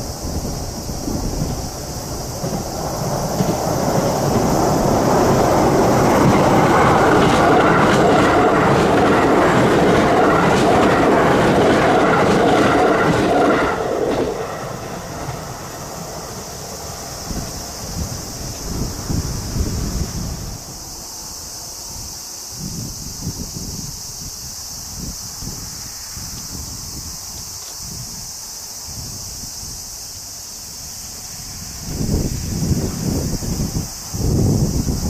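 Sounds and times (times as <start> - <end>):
train wheels rumbling over bridge: 0.0 - 35.0.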